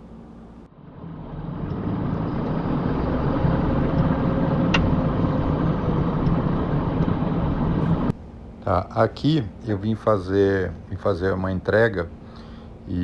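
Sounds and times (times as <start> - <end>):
truck engine and road noise: 0.0 - 12.1.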